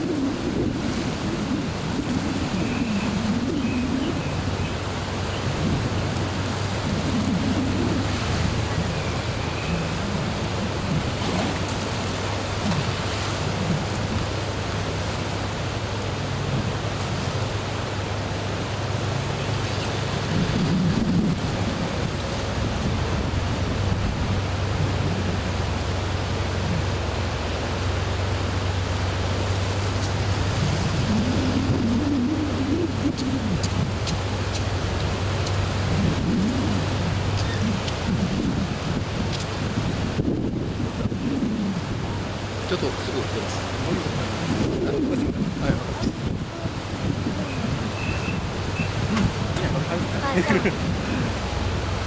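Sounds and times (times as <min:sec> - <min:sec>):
river rushing: 0:00.0 - 0:52.0.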